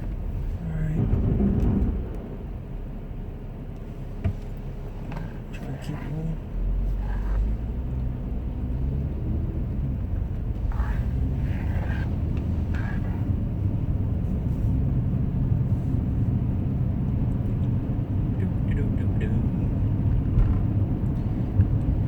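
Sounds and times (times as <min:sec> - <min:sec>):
car engine rumble: 0:00.0 - 0:22.0
tyre noise on icy road: 0:00.0 - 0:22.0.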